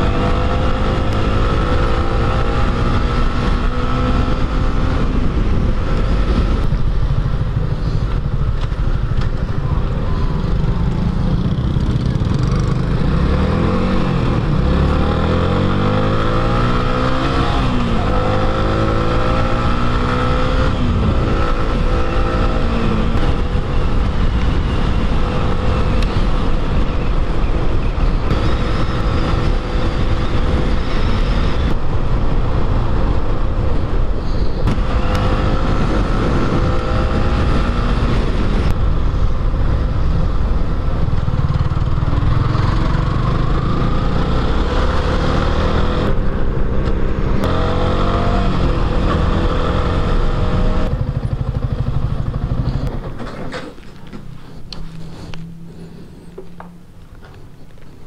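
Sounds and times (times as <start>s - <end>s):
motorcycle engine revving: 0.0s - 57.1s.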